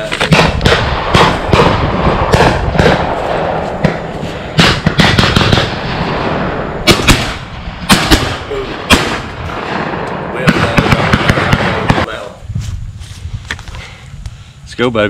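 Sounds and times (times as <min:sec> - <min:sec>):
shotgun shots: 0:00.0 - 0:12.3.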